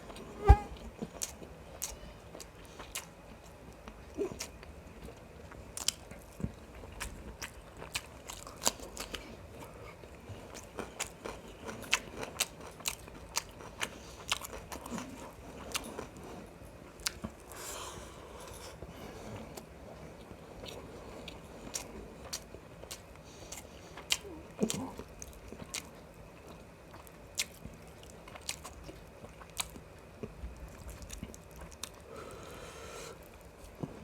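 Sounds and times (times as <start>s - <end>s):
chewing with wet mouth clicks: 1.0s - 16.2s, 19.6s - 32.0s.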